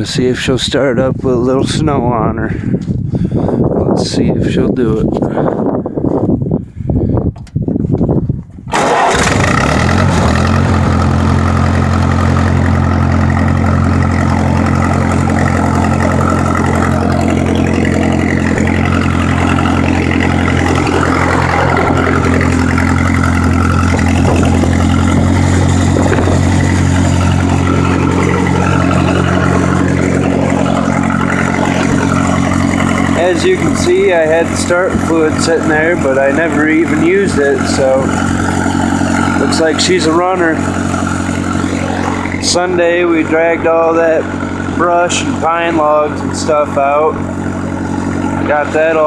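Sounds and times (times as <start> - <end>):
tractor engine starting and idling: 7.0 - 49.0.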